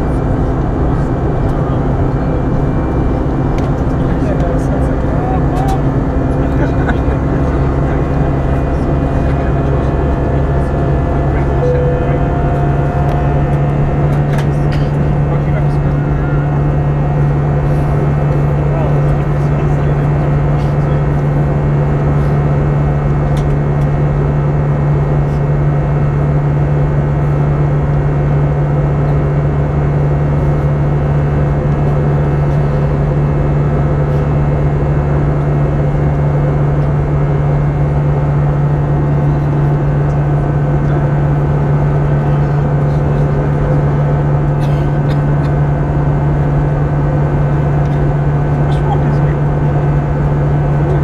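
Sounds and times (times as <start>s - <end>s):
airliner cabin drone: 0.0s - 51.0s.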